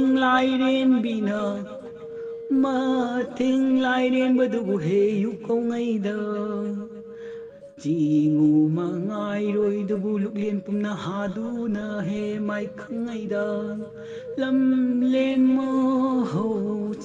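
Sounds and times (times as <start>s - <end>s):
slow chant-like singing: 0.0s - 17.0s.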